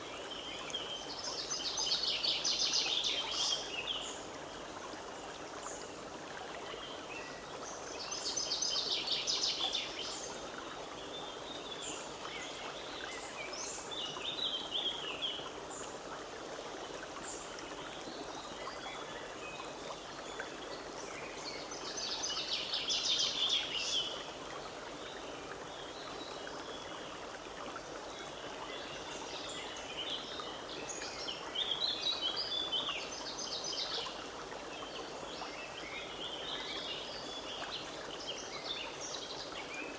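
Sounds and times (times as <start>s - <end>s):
stream over stones: 0.0s - 39.9s.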